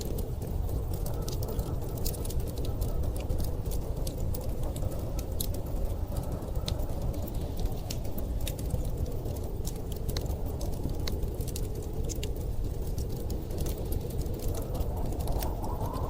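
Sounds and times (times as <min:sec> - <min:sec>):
storm wind rushing: 0:00.0 - 0:16.0
wood fire crackling: 0:00.0 - 0:16.0.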